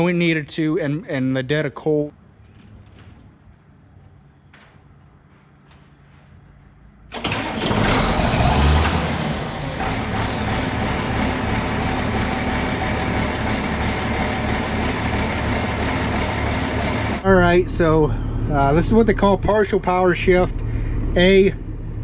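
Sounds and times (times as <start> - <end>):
diesel tractor engine starting and idling: 2.1 - 22.0.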